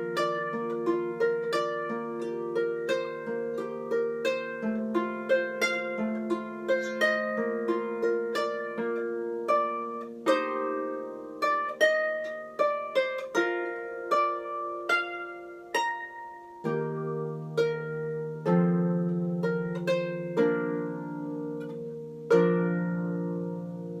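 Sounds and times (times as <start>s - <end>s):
harp playing: 0.0s - 24.0s.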